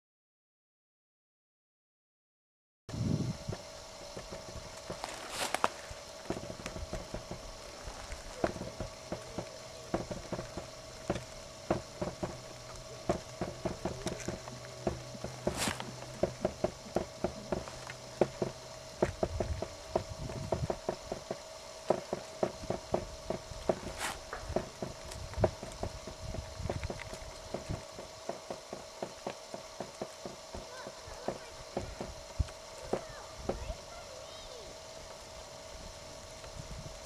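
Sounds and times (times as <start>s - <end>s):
horse hoofbeats on dirt: 3.3s - 33.8s.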